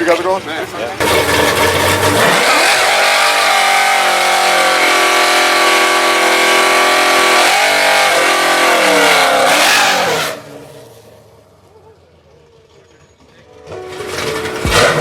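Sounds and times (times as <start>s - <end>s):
race car engines at full throttle: 0.0s - 15.0s.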